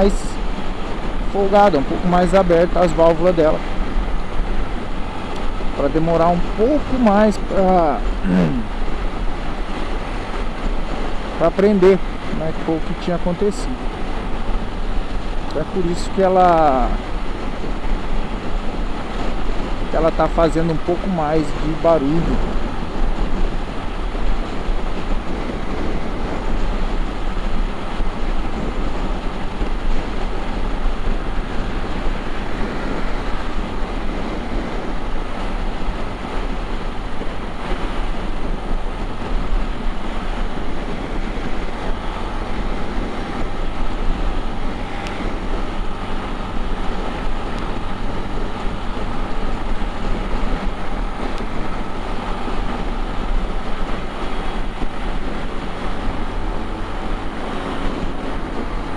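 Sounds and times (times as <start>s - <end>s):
motorcycle engine running: 0.0s - 58.9s
rushing noise: 0.0s - 58.9s.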